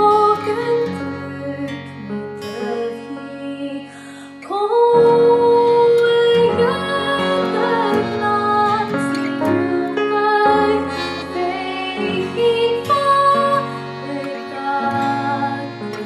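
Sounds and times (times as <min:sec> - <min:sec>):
accordion guitar and piano: 0:00.0 - 0:16.0
woman singing slow song: 0:00.0 - 0:16.0.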